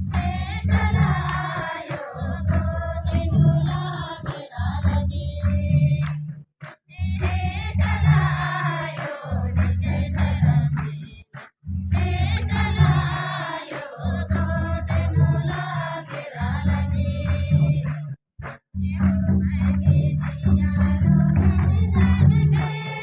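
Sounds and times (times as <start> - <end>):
group singing: 0.0 - 6.2, 6.9 - 18.1, 18.8 - 23.0
low drum beat: 0.0 - 6.3, 7.0 - 18.2, 18.8 - 23.0
high percussion ticks: 0.0 - 23.0.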